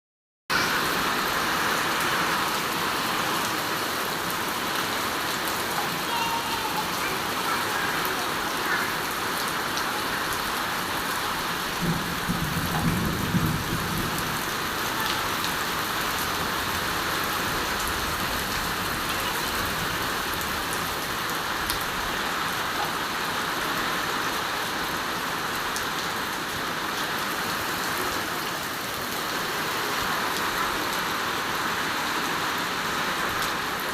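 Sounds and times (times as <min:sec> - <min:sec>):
steady rain falling: 0:00.5 - 0:33.9.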